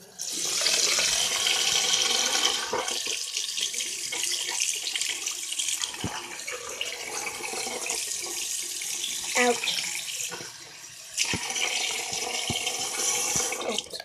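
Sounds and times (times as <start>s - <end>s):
tap water running into cup: 0.0s - 14.0s.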